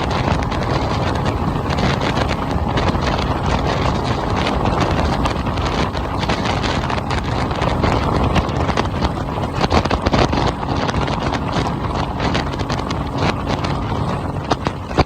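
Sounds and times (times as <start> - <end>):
outboard engine hum: 0.0 - 15.0
wind on microphone: 0.0 - 15.0.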